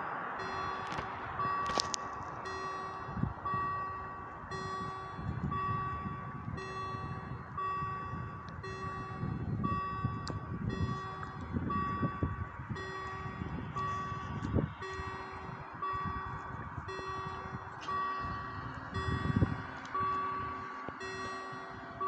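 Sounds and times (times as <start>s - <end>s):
level crossing warning chime: 0.3s - 22.0s.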